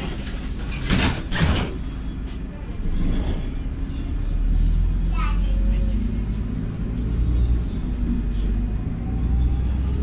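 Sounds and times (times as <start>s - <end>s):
bus engine low hum: 0.0s - 10.0s.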